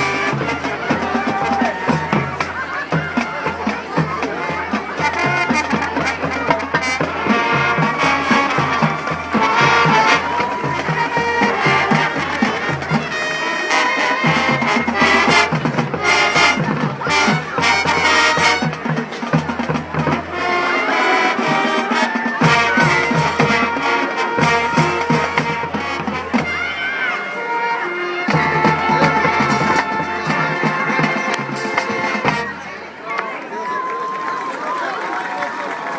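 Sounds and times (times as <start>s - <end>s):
drumline beat: 0.0s - 26.8s, 28.3s - 32.7s
trumpets and trombones playing: 0.0s - 32.9s.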